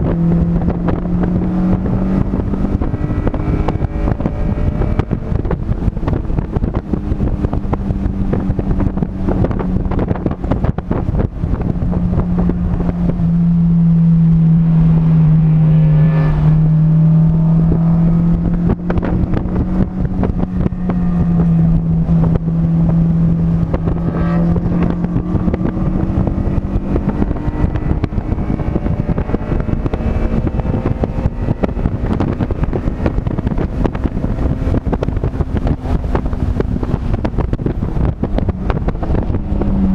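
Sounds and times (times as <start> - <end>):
race car engine accelerating: 0.0 - 39.9
wind noise on microphone: 0.0 - 39.9.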